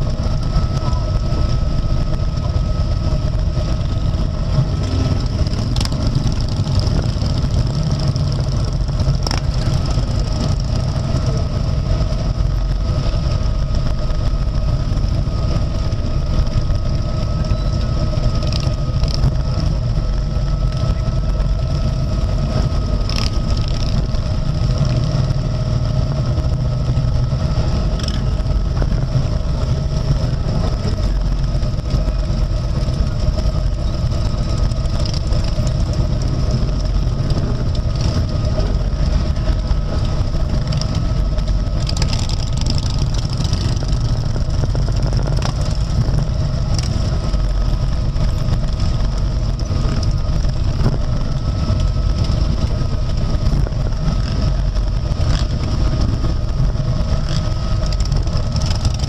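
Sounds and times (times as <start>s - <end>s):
motorcycle engines rumbling: 0.0s - 59.0s
thin steady whine: 0.0s - 59.0s.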